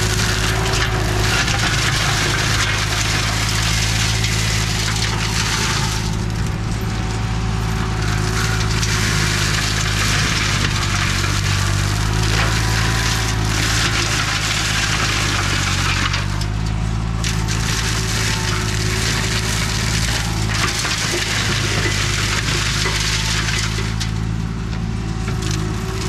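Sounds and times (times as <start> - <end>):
branches being shredded: 0.0 - 24.4
mower engine running: 0.0 - 26.0.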